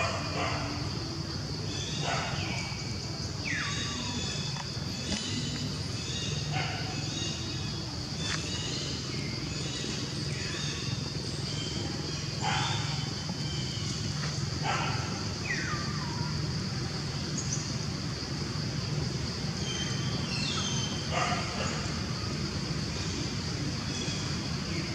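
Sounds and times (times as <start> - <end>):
high insect drone: 0.0 - 24.9.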